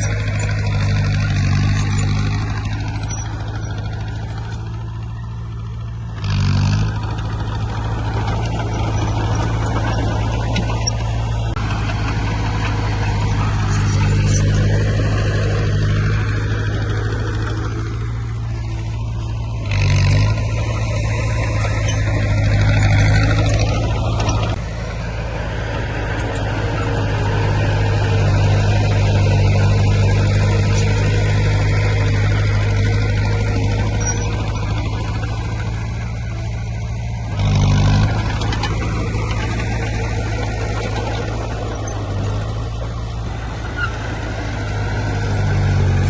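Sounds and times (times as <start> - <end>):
diesel machinery engine hum: 0.0 - 46.0.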